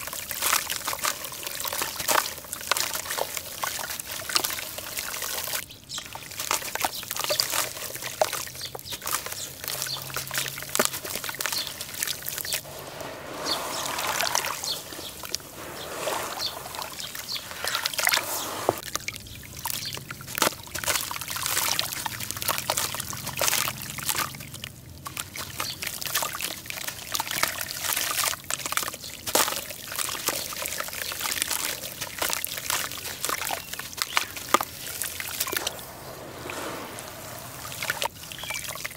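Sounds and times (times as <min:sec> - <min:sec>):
hands squeezing wet charcoal: 0:00.0 - 0:38.9
water sloshing and trickling: 0:00.0 - 0:38.9.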